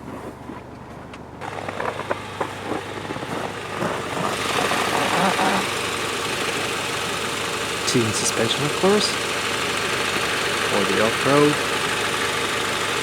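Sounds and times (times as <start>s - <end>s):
engine idling: 1.4s - 13.0s.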